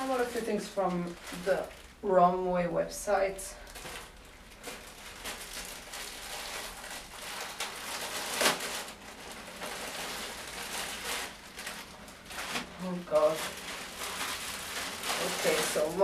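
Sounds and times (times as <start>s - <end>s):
plastic bag crinkling: 0.0s - 2.5s, 3.3s - 16.0s.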